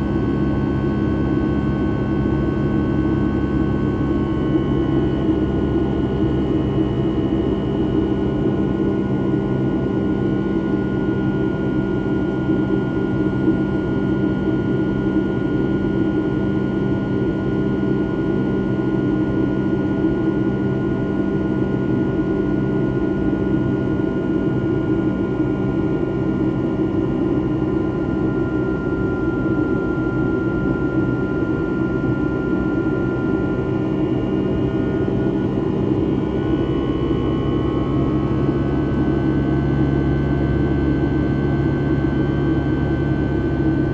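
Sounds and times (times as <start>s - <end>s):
aircraft cabin engine and airflow noise: 0.0s - 43.9s.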